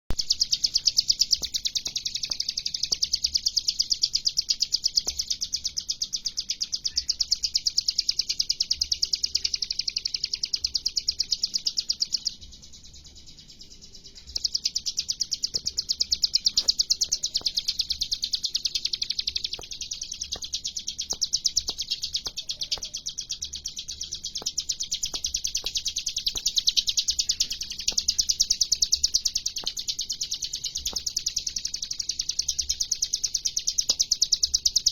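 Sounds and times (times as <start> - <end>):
bird singing rapid high trills: 0.1 - 34.9.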